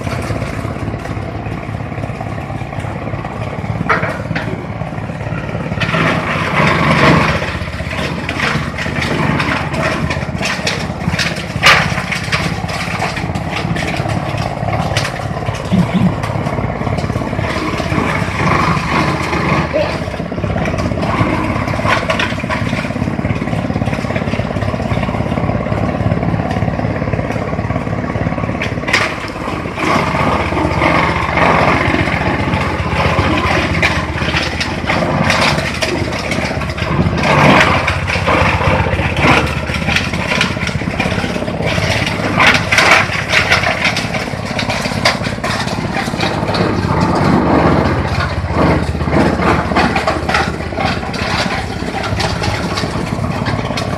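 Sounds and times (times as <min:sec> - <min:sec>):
chopping machine engine running: 0:00.0 - 0:53.9
crunching bursts: 0:00.0 - 0:53.9.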